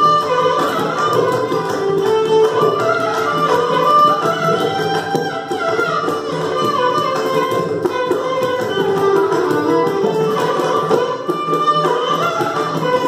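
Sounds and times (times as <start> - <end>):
violins playing melody: 0.0 - 13.0.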